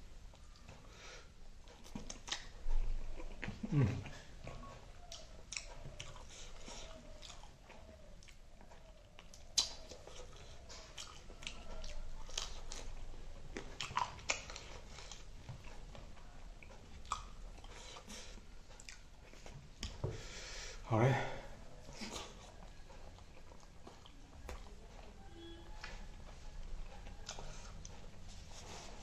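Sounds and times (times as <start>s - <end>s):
person chewing food: 0.1s - 20.8s, 21.5s - 29.0s.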